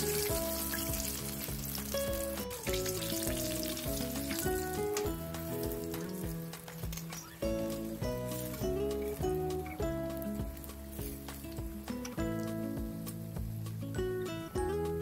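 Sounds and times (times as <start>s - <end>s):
chicken deep-frying in oil: 0.0s - 13.8s
background music with held notes: 0.0s - 15.0s.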